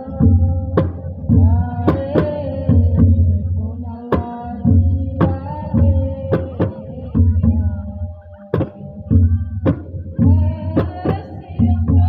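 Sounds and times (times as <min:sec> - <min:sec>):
deep drum beats: 0:00.0 - 0:12.0.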